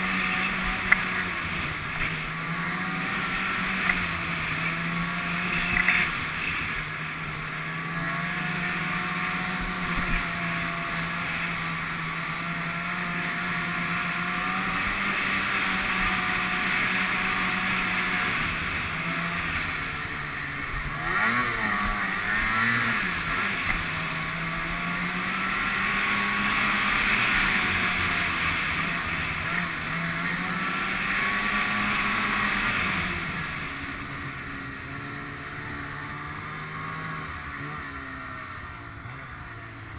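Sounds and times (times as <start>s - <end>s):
snowmobile engine running: 0.0s - 39.9s
track and wind hiss: 0.0s - 39.9s.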